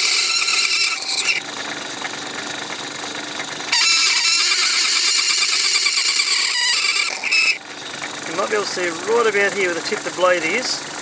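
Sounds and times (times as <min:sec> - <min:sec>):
lathe motor hum: 0:00.0 - 0:11.0.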